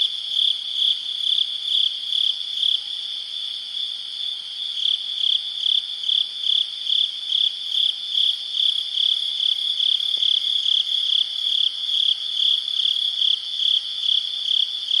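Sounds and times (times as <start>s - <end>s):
crickets chirping: 0.0s - 15.0s
steady insect hum: 0.0s - 15.0s.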